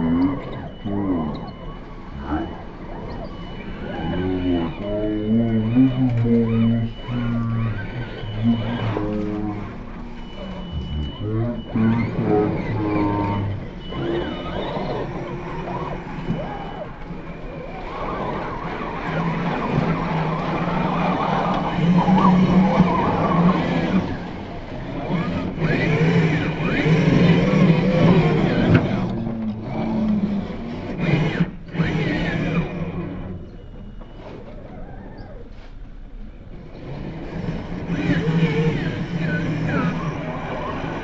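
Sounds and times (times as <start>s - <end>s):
electric motor whining: 0.0s - 33.7s, 36.6s - 41.0s.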